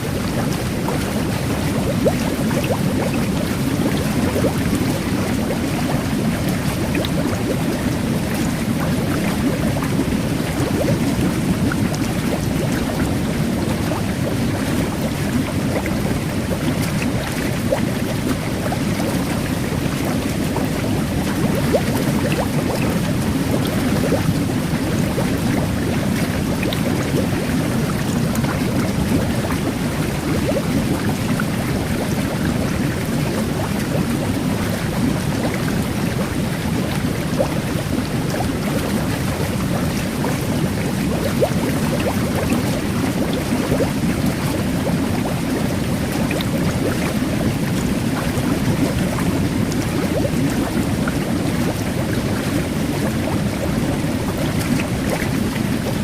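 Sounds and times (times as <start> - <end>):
fizzing bubbles crackling: 0.0 - 56.0
jet bath churning water: 0.0 - 56.0.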